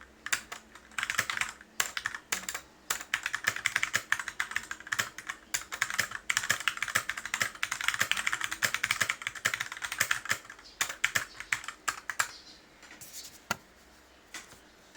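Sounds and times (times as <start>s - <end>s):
mechanical keyboard typing: 0.2s - 12.4s.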